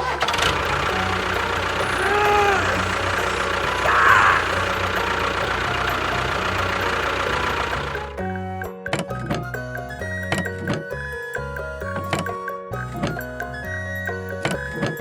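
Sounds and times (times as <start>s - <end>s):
engine running with low pulsing: 0.0s - 15.0s.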